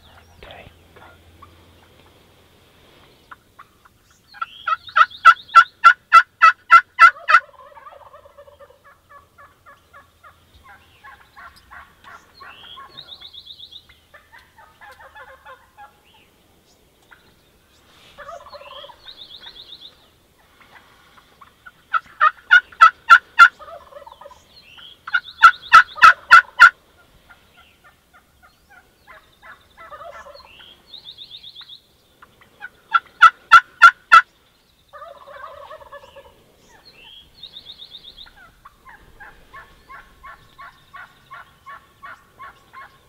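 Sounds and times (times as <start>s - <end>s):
wild turkeys calling: 0.0s - 43.0s.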